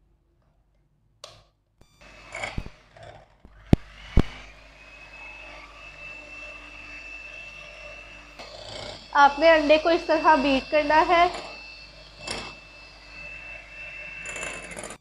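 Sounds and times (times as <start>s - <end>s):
electric hand mixer whining: 1.8s - 15.0s.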